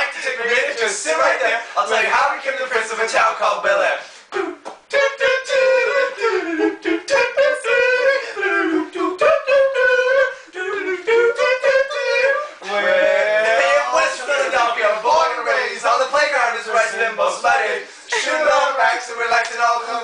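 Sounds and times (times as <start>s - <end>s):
men singing wordless tune: 3.0s - 20.0s.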